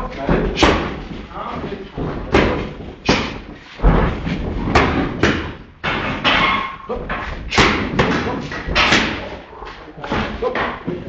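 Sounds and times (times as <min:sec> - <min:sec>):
boxing gloves hitting mitts: 0:00.1 - 0:09.3.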